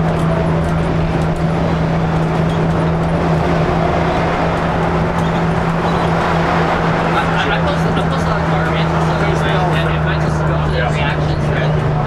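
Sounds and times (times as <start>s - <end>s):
bus diesel engine droning: 0.0s - 12.0s
road and wind noise: 0.0s - 12.0s.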